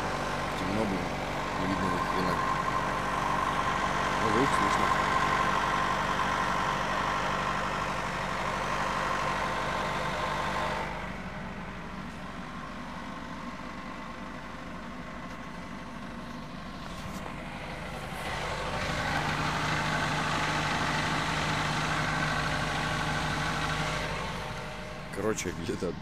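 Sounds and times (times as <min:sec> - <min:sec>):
car engine idling with knock: 0:00.0 - 0:26.0.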